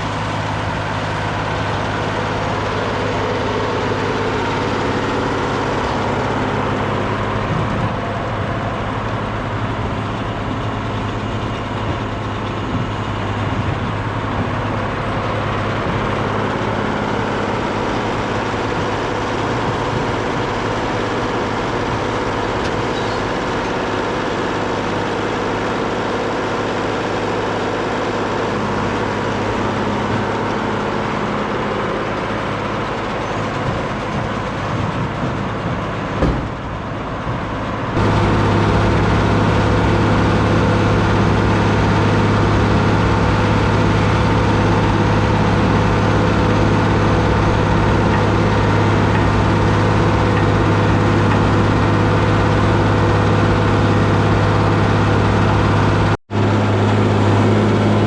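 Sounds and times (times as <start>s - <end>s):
round baler working: 0.0s - 58.0s
tractor diesel engine running: 0.0s - 58.0s.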